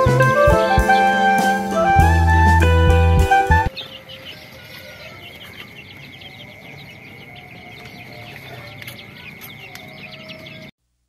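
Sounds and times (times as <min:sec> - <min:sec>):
chicks peeping: 0:00.7 - 0:10.7.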